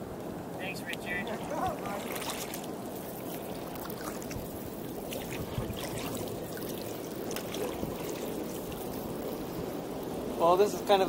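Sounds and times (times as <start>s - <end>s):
water lapping around kayak: 0.0s - 11.0s
small splashes and drips: 0.9s - 10.2s.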